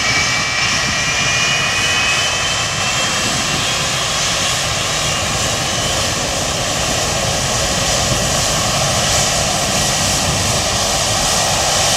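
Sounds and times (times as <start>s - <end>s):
jet engines roaring: 0.0s - 11.9s.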